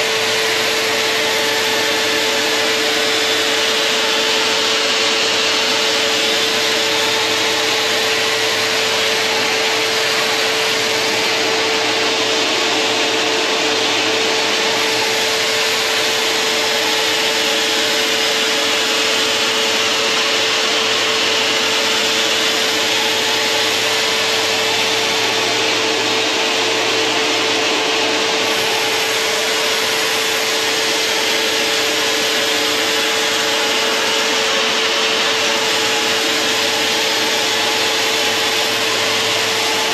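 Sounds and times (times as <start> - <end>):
motor-driven cutting disc whine: 0.0 - 39.9
vacuum cleaner running: 0.0 - 39.9.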